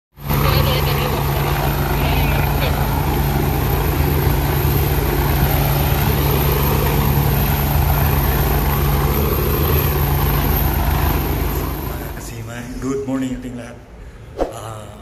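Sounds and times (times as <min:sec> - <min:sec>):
helicopter hovering: 0:00.1 - 0:14.4.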